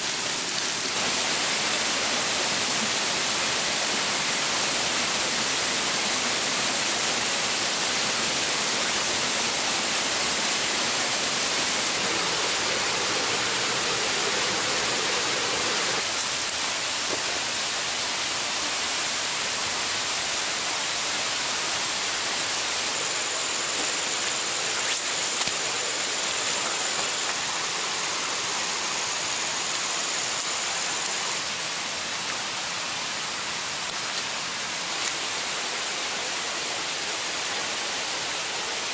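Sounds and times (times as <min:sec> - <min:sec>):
stream cascading over rocks: 0:00.0 - 0:38.9.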